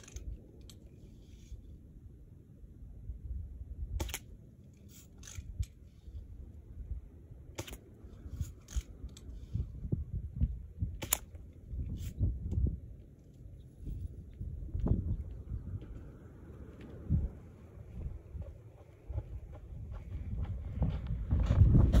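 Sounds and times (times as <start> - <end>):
low wind rumble on microphone: 0.0 - 22.0.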